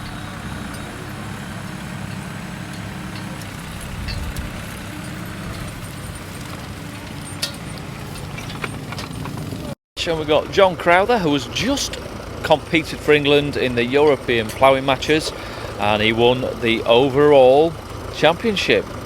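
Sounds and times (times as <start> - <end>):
tractor engine throbbing: 0.0 - 19.0.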